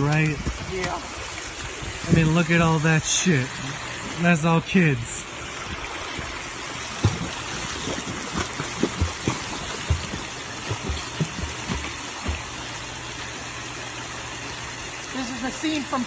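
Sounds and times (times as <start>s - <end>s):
pool water slapping and splashing: 0.0s - 16.0s
rush of moving water: 0.0s - 16.0s.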